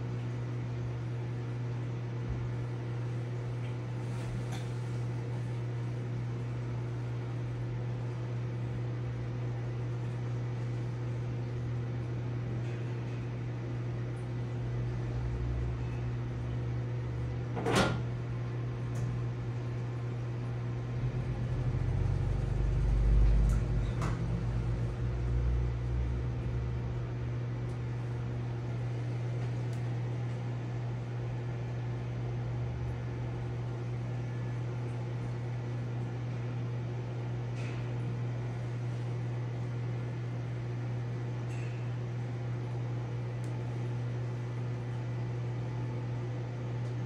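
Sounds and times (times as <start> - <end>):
aquarium equipment humming: 0.0 - 47.0.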